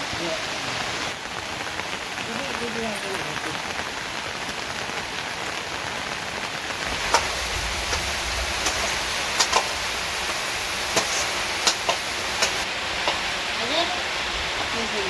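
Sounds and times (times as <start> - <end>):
rain hissing: 0.0 - 15.0
sharp raindrops landing close: 0.5 - 15.0.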